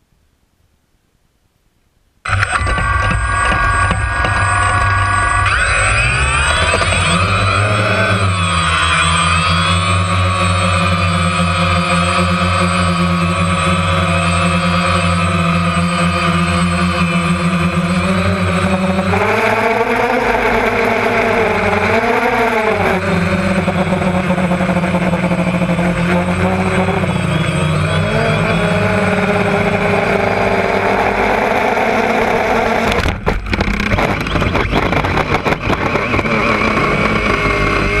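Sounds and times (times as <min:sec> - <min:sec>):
crackling and buzzing: 0:02.1 - 0:38.0
drone motors and propellers: 0:02.2 - 0:38.0.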